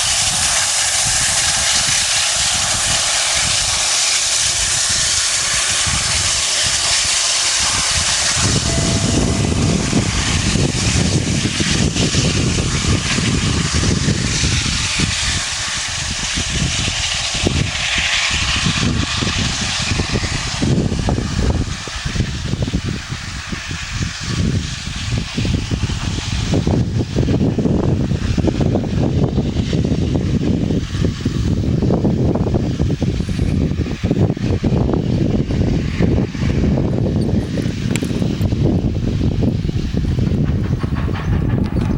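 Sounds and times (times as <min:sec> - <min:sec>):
heavy low rumble: 0:00.0 - 0:41.9
steam locomotive hissing: 0:00.0 - 0:41.9.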